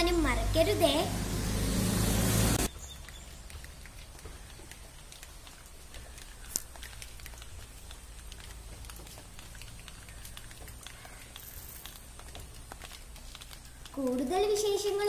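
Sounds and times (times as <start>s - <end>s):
raindrops pattering: 0.0s - 15.0s.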